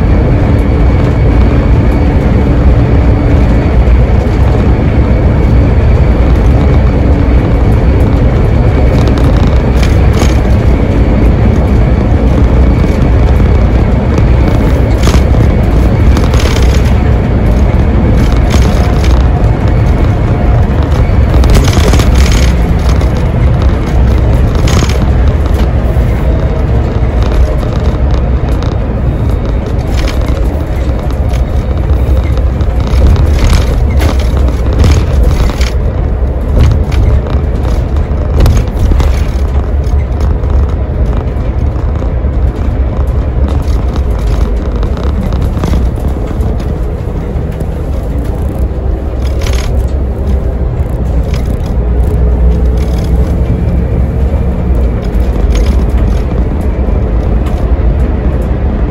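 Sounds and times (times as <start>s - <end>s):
bus engine and road rumble: 0.0s - 58.9s.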